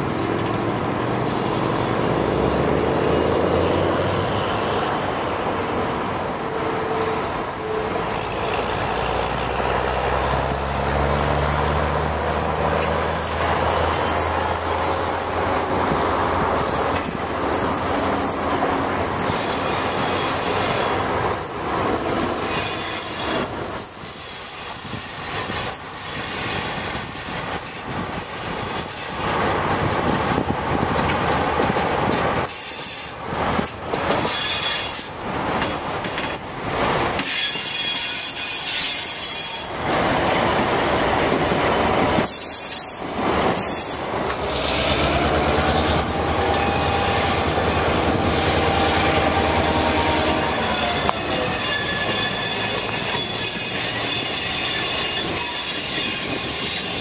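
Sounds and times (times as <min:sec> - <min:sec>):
diesel locomotive engines running: 0:00.0 - 0:57.0
wheels squealing on rails: 0:00.0 - 0:57.0.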